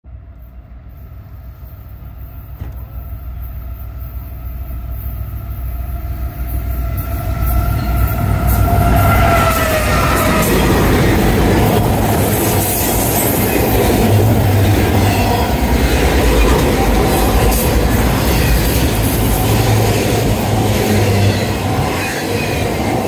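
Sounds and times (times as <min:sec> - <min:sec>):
diesel locomotives passing: 0:00.0 - 0:23.0.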